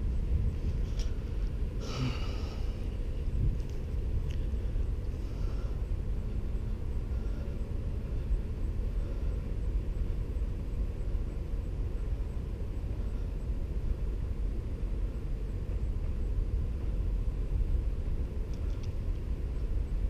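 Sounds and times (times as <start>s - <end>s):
low rumbling noise: 0.0s - 20.0s.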